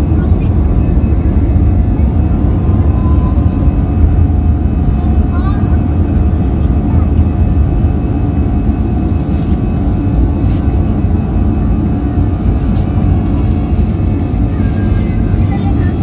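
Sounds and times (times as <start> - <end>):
jet engines and rushing air: 0.0 - 16.0.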